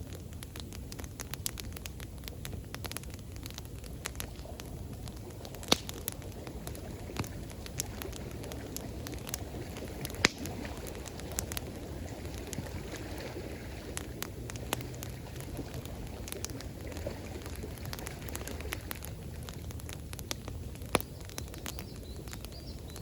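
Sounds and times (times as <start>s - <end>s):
campfire crackling and popping: 0.0s - 23.0s
rushing water: 2.8s - 23.0s.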